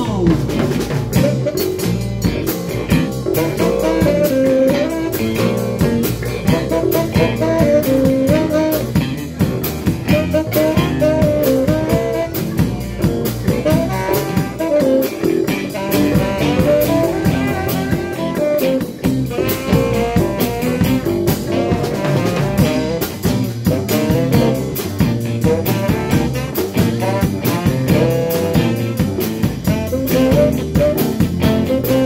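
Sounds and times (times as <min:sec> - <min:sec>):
bass guitar: 0:00.0 - 0:32.0
drum kit beat: 0:00.0 - 0:32.0
electric guitar: 0:00.0 - 0:32.0
saxophone lead line: 0:00.0 - 0:32.0.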